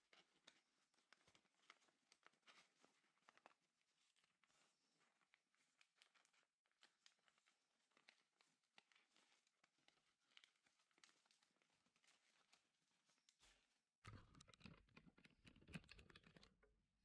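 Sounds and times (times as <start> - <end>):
paper crinkling while folded: 0.0 - 16.6.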